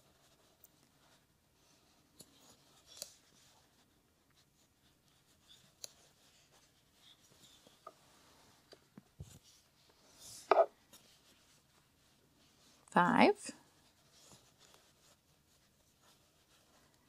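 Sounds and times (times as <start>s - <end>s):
yarn rustling: 0.0s - 17.0s.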